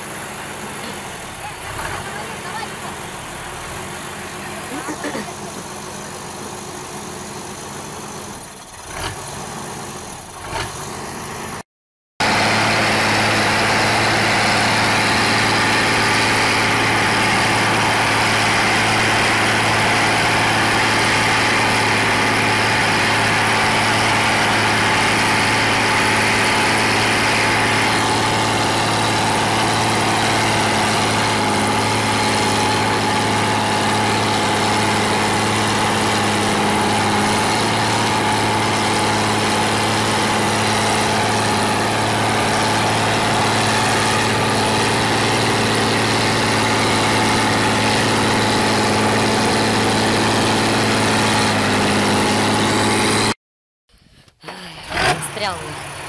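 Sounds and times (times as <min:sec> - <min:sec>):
tractor diesel engine running: 0:00.0 - 0:11.6, 0:12.2 - 0:56.0.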